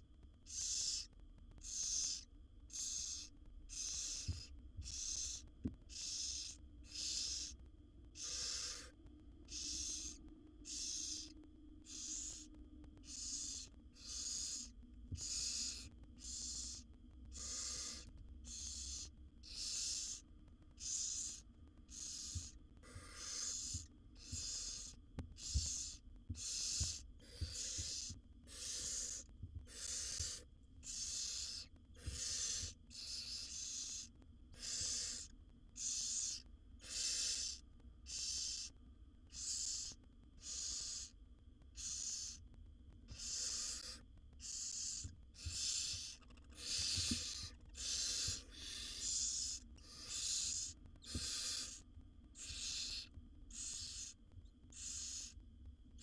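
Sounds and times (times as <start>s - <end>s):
owl nestlings hissing calls: 0.4s - 42.4s, 43.1s - 51.8s, 52.4s - 55.4s.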